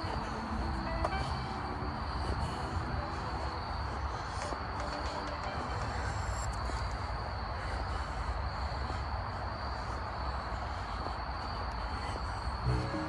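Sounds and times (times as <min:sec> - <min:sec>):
crickets chirring: 0:00.0 - 0:13.0
steady background noise: 0:00.0 - 0:13.0.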